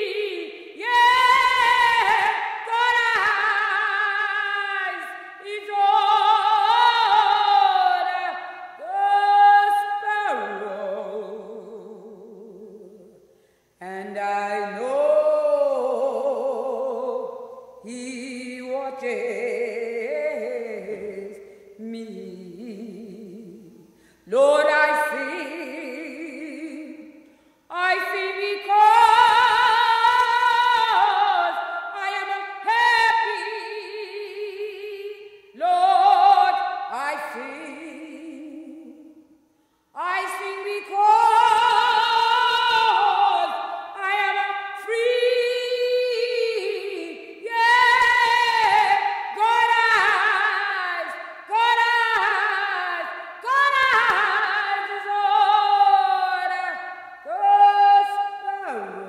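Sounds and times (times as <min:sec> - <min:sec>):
person singing with vibrato: 0:00.0 - 0:59.0.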